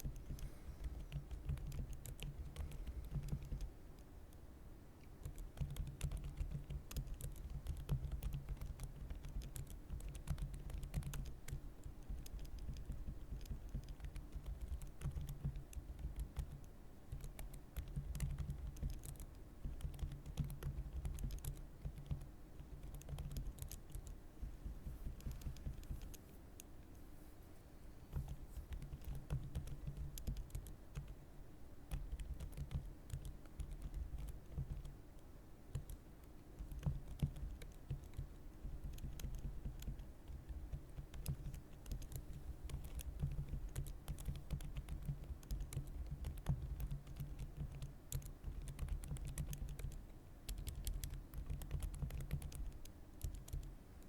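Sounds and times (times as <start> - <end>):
typing on computer keyboard: 0.0 - 4.1, 5.0 - 26.7, 28.1 - 31.2, 31.9 - 53.8.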